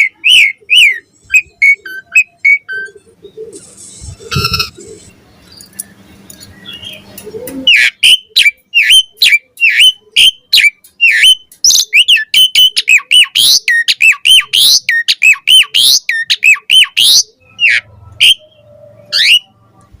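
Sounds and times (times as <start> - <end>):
starling whistling song: 0.0 - 3.0, 6.5 - 19.9.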